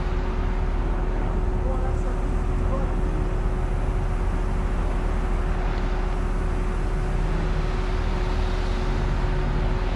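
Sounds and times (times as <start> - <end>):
constant low hum: 0.0 - 9.9.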